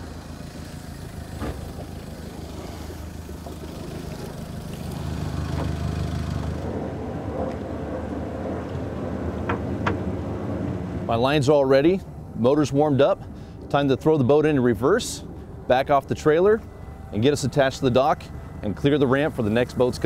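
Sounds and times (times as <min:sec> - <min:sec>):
outboard motor idling: 0:00.0 - 0:20.0.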